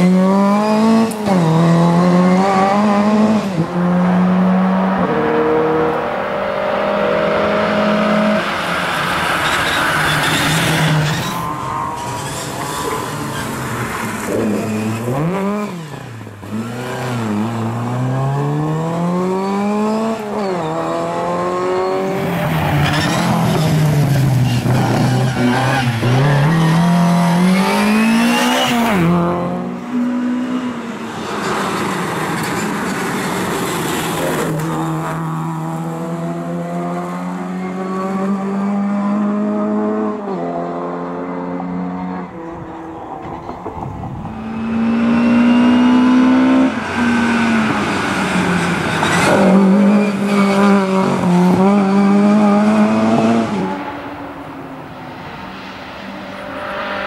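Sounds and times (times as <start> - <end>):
rally car engine revving: 0.0 - 32.8, 33.4 - 54.4.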